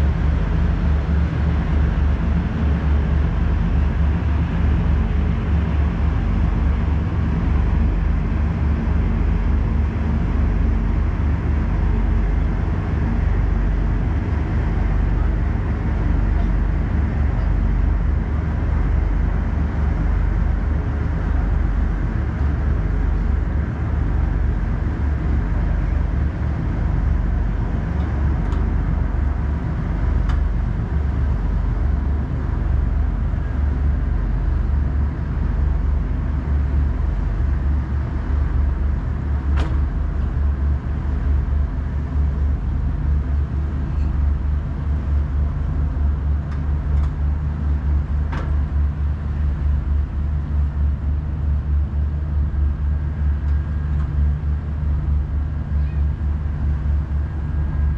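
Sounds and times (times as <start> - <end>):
ship diesel engines droning: 0.0 - 57.9.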